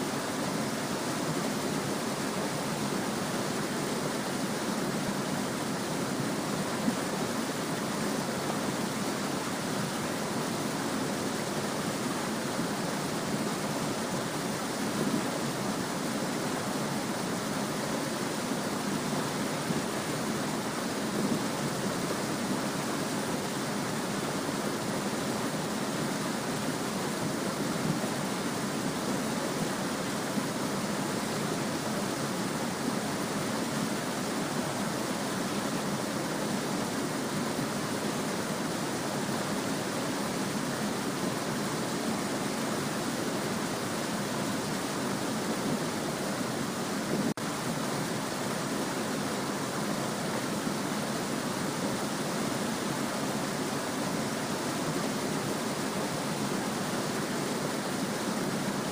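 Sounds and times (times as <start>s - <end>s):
stream babbling over stones: 0.0s - 58.9s.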